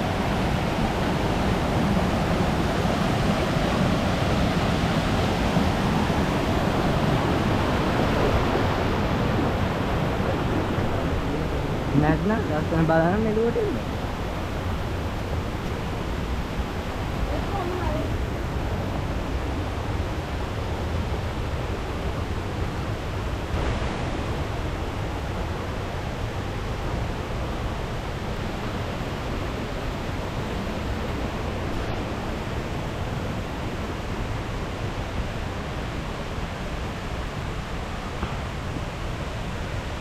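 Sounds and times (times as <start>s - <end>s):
stream and waterfall rushing: 0.0s - 40.0s.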